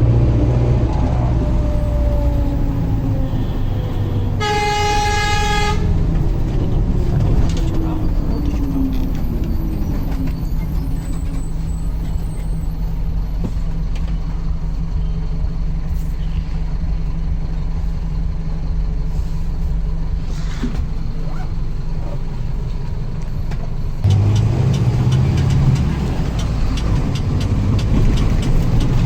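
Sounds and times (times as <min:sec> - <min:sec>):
diesel bus engine idling: 0:00.0 - 0:29.0.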